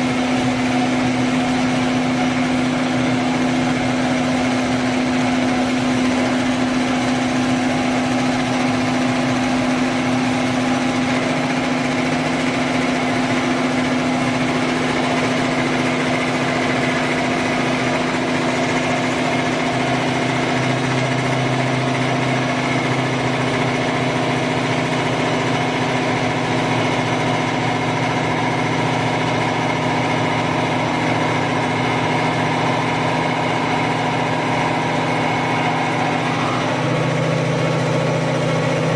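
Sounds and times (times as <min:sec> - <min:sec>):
drilling machine hum: 0:00.0 - 0:38.9.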